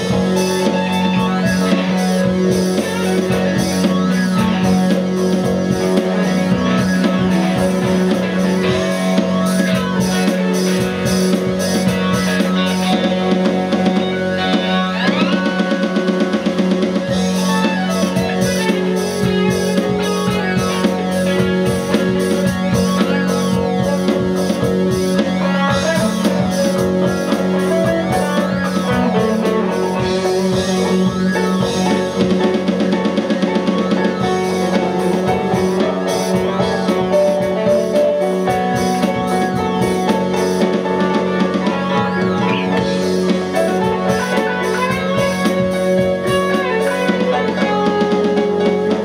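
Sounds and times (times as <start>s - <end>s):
drum kit: 0.0s - 49.0s
electric guitars: 0.0s - 49.0s
keyboard: 0.0s - 49.0s.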